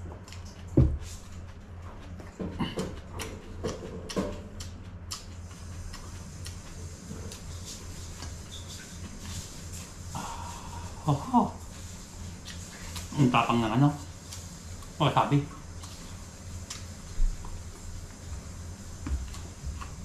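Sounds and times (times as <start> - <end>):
chewing with crunches: 0.0 - 10.9, 14.0 - 20.0
steady low hum: 0.0 - 20.0.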